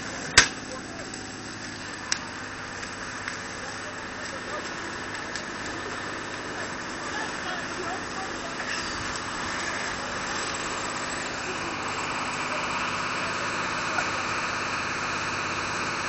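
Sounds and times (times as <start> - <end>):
fire engine running: 0.0 - 16.0.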